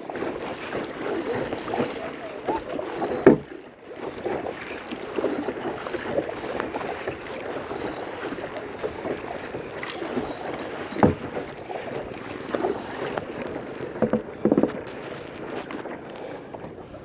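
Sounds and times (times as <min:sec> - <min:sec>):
water splashing around kayak: 0:00.0 - 0:17.0.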